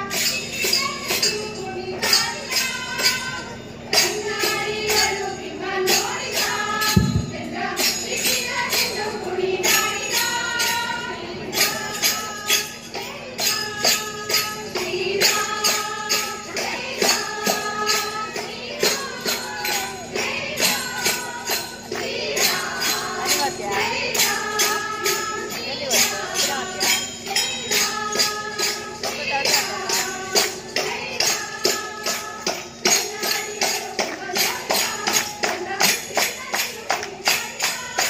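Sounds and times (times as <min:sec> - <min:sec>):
jingling percussion: 0:00.0 - 0:38.0.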